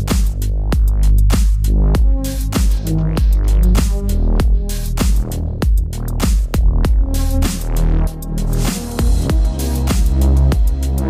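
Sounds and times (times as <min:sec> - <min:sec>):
music with heavy beat and bass: 0:00.0 - 0:11.0.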